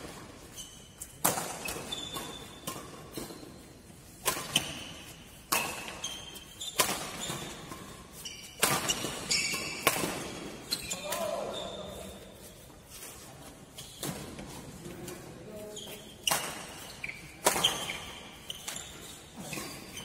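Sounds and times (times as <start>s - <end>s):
rackets hitting shuttlecock: 0.0s - 12.1s, 15.9s - 20.0s
shoes squeaking on court: 0.0s - 20.0s.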